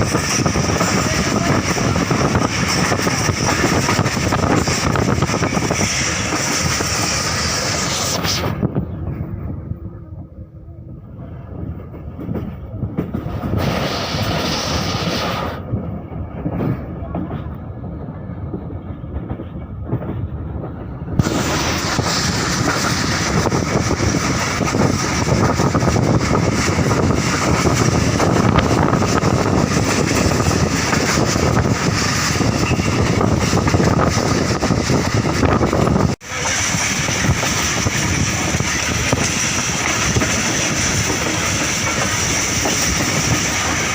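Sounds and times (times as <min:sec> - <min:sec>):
train running on rails: 0:00.0 - 0:43.9.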